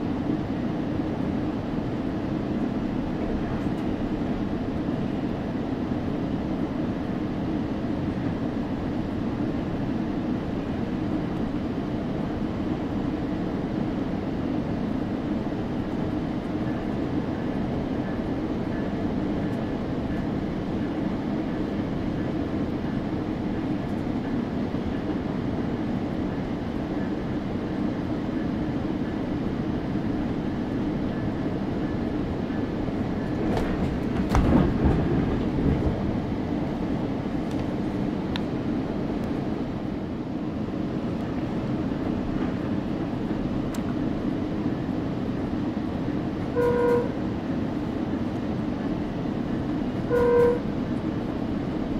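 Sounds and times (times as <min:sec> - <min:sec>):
passenger train rumbling on rails: 0:00.0 - 0:51.9.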